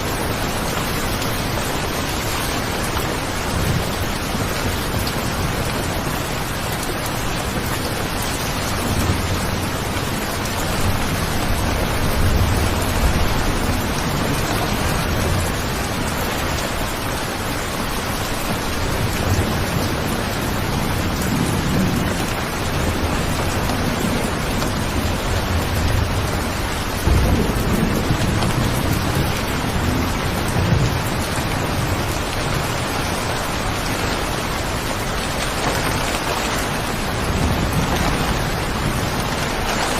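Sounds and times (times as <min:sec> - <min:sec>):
heavy rain falling: 0:00.0 - 0:39.9
rolling thunder rumbles: 0:00.0 - 0:39.9.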